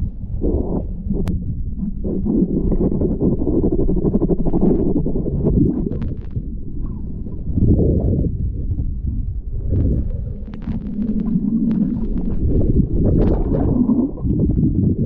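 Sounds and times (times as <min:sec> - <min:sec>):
muffled underwater river rumble: 0:00.0 - 0:15.0.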